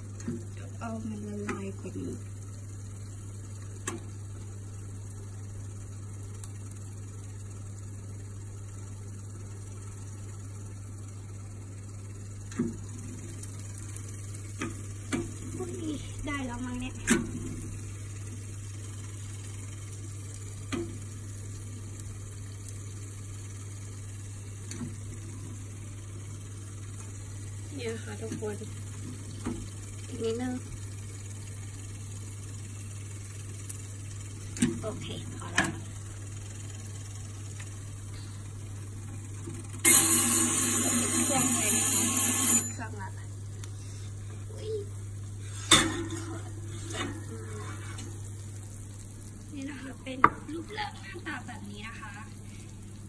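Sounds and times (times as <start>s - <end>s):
electric grill humming: 0.0s - 53.0s.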